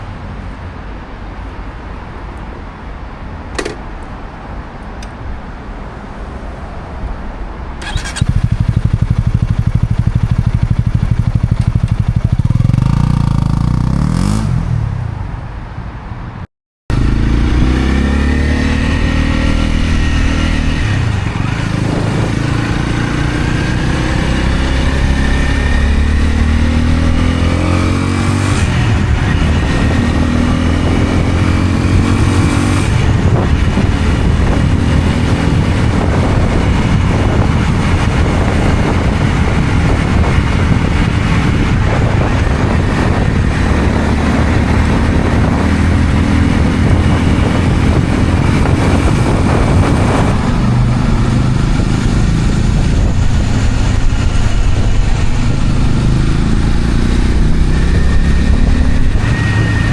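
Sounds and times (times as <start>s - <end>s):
motorcycle engine revving: 7.8s - 15.0s, 16.9s - 59.9s.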